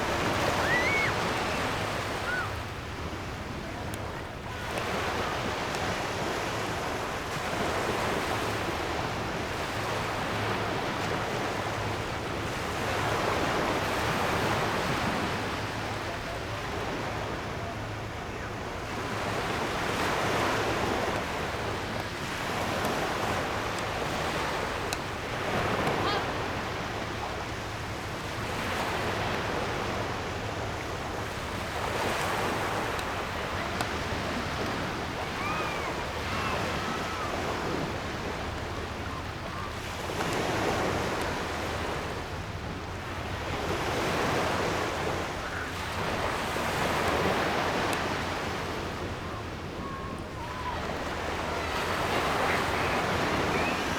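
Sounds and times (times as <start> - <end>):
surf washing onto beach: 0.0 - 17.6, 18.8 - 53.9.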